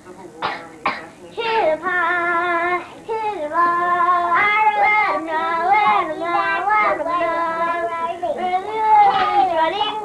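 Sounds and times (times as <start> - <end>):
girl singing: 1.3 - 10.0.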